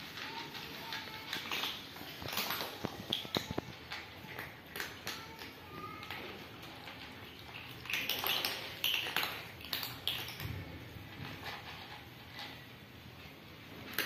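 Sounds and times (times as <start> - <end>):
cats crunching dry kibble: 0.0 - 14.0.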